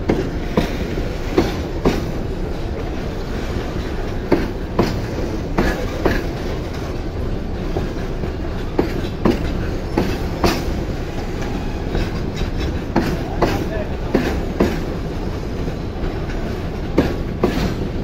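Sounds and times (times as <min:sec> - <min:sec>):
train wheels rumbling on rail: 0:00.0 - 0:18.0
wheels clacking over rail joints: 0:00.0 - 0:18.0.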